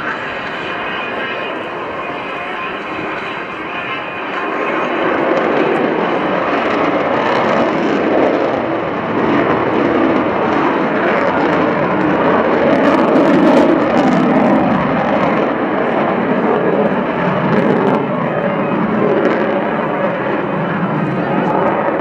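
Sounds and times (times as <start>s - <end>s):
jet flying overhead: 0.0s - 22.0s.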